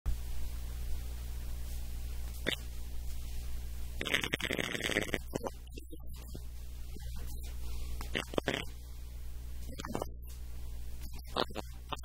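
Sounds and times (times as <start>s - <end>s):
low electrical hum: 0.1s - 12.0s.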